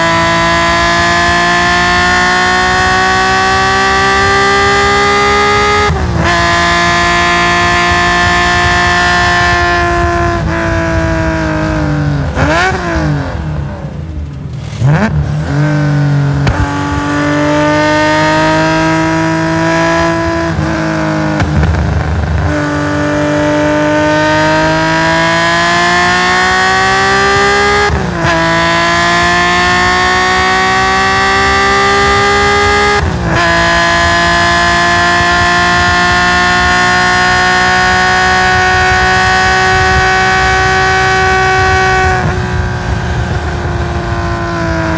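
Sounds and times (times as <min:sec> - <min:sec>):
quick gear upshifts: 0:00.0 - 0:44.9
race car engine revving: 0:00.0 - 0:44.9
throttle blips on downshifts: 0:00.0 - 0:44.9.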